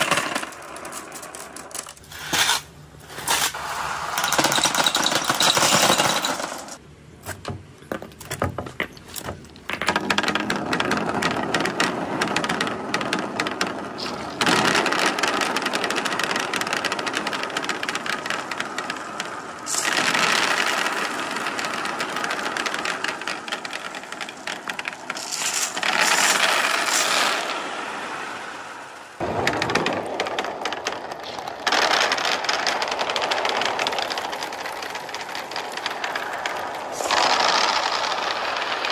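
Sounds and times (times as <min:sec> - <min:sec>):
glass marbles clattering down ramps: 0:00.0 - 0:06.8, 0:08.4 - 0:28.4, 0:29.2 - 0:38.9
billiard balls rolling: 0:00.0 - 0:38.9.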